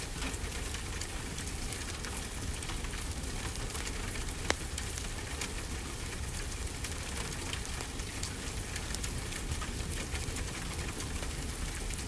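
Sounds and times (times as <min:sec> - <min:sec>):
steady rainfall: 0:00.0 - 0:12.0.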